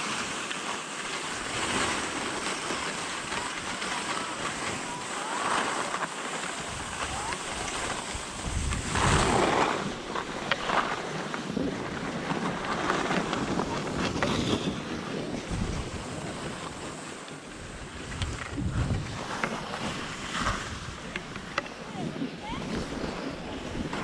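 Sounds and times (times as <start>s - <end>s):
skis scraping over snow: 0.0s - 24.0s
wind on microphone: 1.3s - 24.0s.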